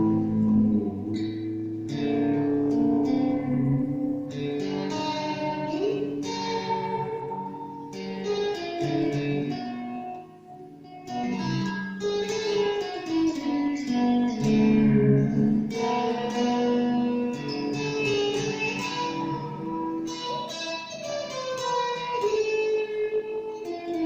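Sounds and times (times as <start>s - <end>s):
electric guitar notes and chords: 0.0s - 24.0s.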